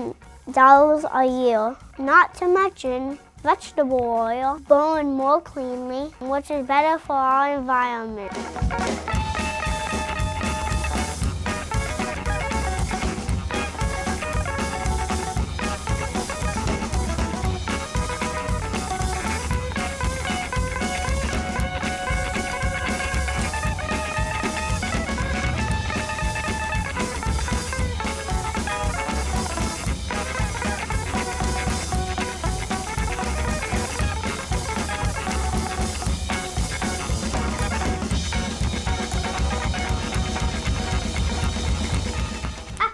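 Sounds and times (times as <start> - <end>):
rock instrumental music: 0.0 - 42.9.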